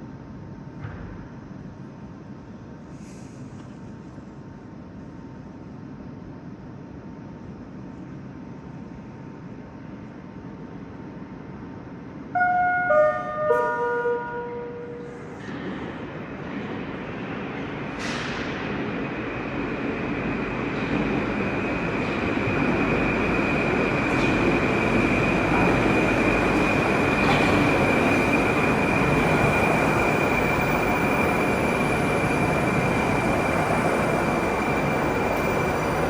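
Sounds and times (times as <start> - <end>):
subway train rumble: 0.0 - 36.0.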